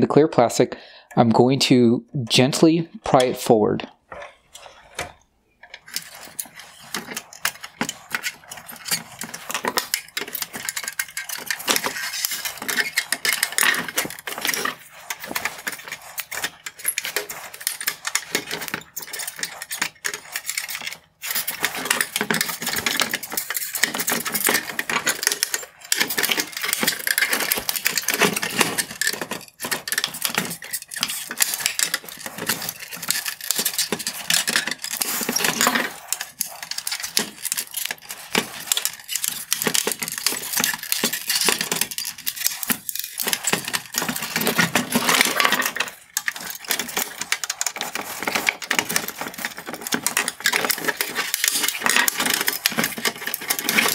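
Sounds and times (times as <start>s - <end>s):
screwdriver scraping plastic: 3.1s - 53.9s
small plastic clicks and rattles: 3.8s - 53.9s.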